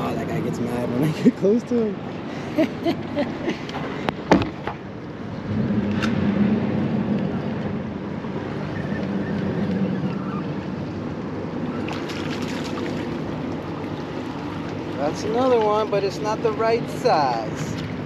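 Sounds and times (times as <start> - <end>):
motorboat engine droning: 0.0 - 18.0.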